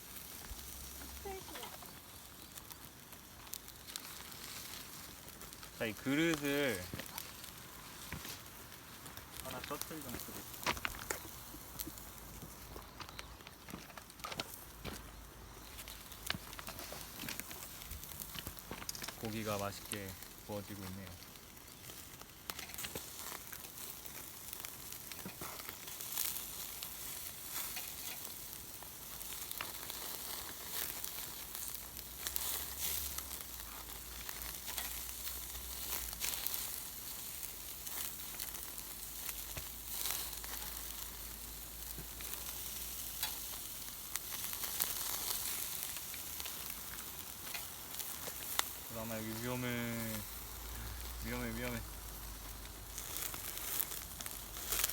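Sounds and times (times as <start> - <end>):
meat sizzling on a grill: 0.0 - 54.9.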